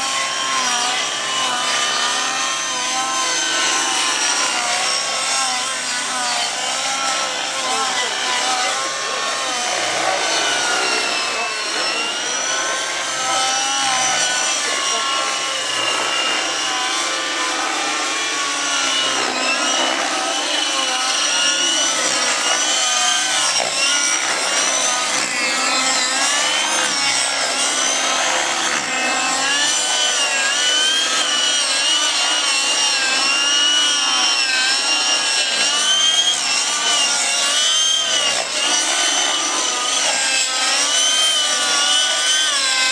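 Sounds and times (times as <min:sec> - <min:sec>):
model helicopters whining: 0:00.0 - 0:42.9.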